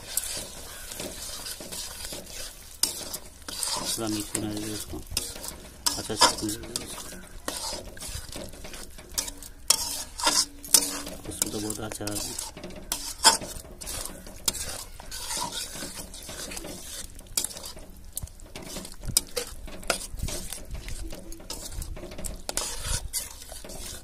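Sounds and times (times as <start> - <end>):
masala sizzling: 0.0 - 24.0
metal spatula scraping pan: 0.0 - 24.0.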